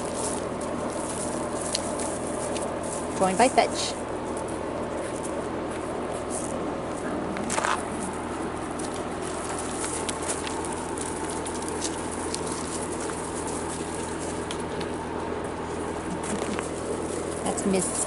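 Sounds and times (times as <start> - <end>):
puppies scuffling on gravel: 0.0 - 18.0.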